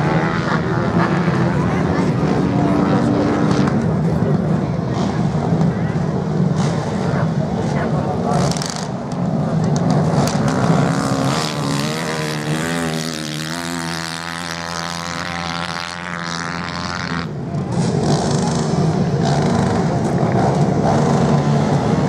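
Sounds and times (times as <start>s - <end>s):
racing motorcycle engines: 0.0s - 22.0s.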